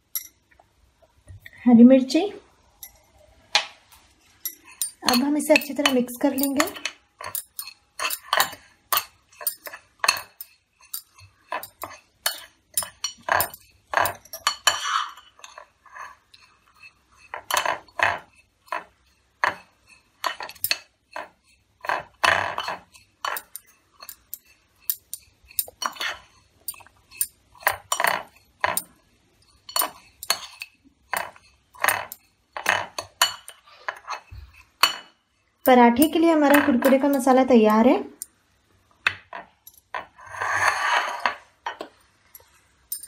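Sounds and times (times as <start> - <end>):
metal spoon scraping glass bowl: 4.3 - 37.4, 40.0 - 41.5.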